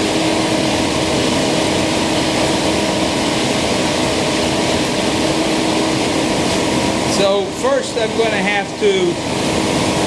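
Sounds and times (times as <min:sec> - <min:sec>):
thickness planer running: 0:00.0 - 0:10.0.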